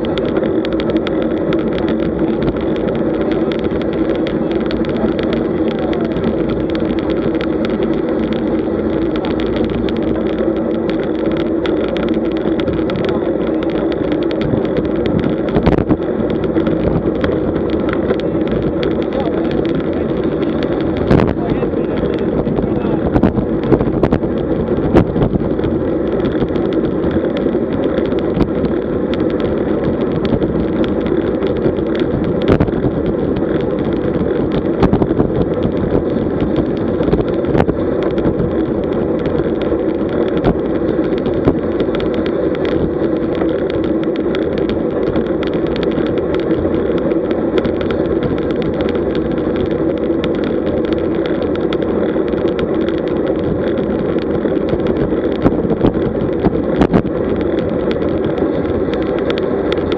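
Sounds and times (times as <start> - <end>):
bike tyres on tarmac: 0.0 - 59.9
wind rushing over microphone: 0.0 - 59.9.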